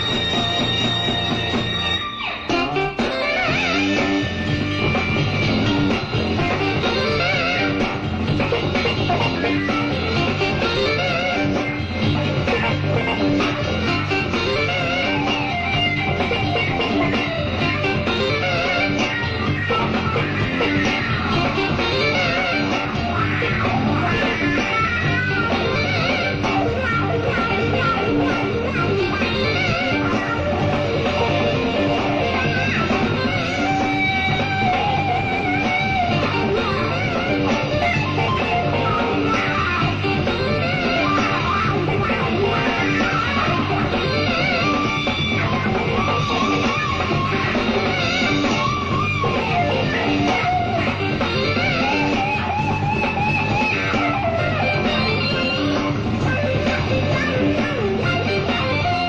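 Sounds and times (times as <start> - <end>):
electric guitar: 0.0 - 59.0
jazz-rock band playing live: 0.0 - 59.0.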